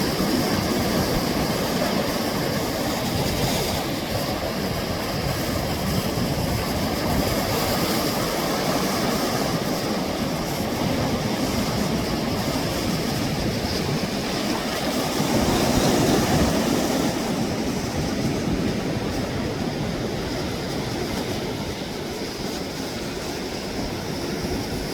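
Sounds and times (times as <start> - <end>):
sea waves washing onto shore: 0.0 - 24.9.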